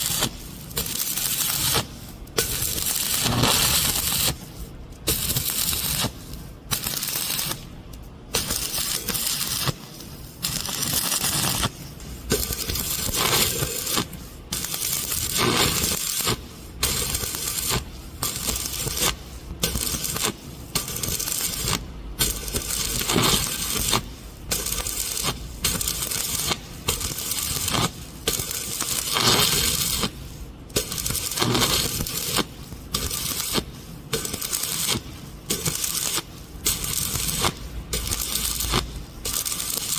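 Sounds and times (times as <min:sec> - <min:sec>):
welding arc crackling hiss: 0:00.0 - 0:39.9.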